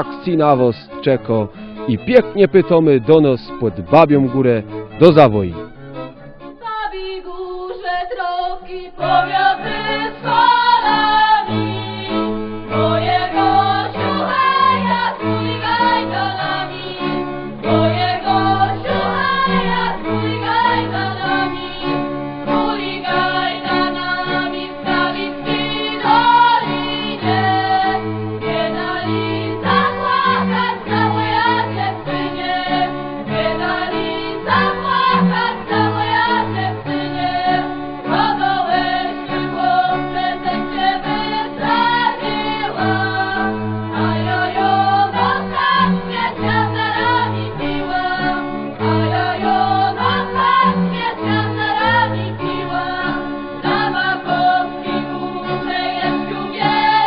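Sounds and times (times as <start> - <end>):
folk music with group singing: 0.0 - 57.0.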